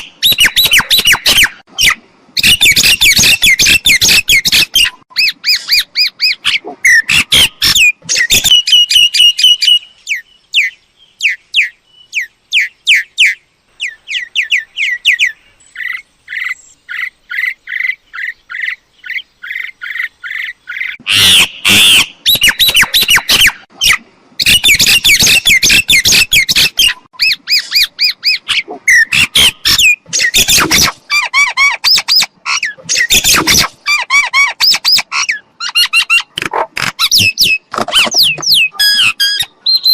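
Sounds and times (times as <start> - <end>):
myna squawking and chattering: 0.0 - 9.8, 12.6 - 39.9.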